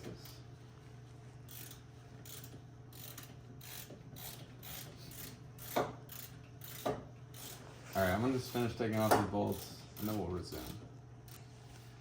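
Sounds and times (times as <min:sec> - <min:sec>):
ratchet wrench clicking: 0:01.5 - 0:11.4.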